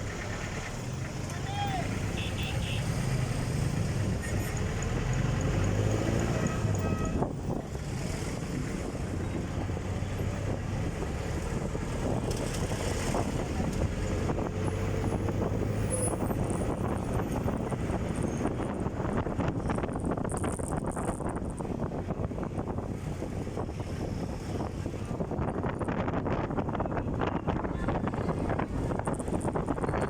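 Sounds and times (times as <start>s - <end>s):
traffic engine and road noise: 0.0s - 30.0s.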